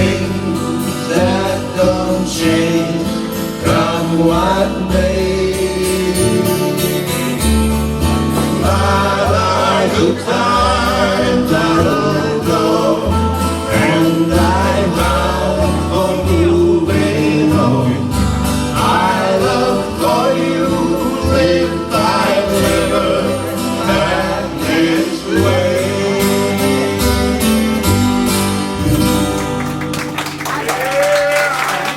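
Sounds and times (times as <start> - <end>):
people singing: 0.0 - 29.3
walking bass line: 0.0 - 29.9
strummed acoustic guitars: 0.0 - 31.9.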